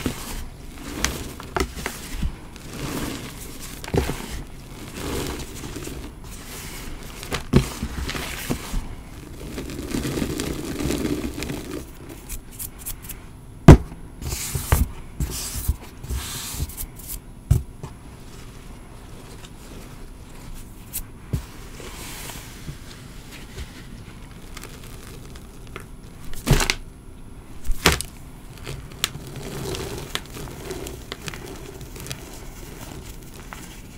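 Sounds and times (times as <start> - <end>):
hands crunching powder: 0.0 - 13.2, 18.2 - 26.8, 27.7 - 33.9.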